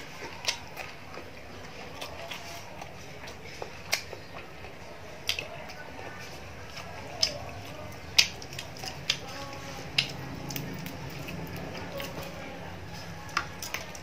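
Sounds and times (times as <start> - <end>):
crunching crispy fried fish: 0.0 - 14.0.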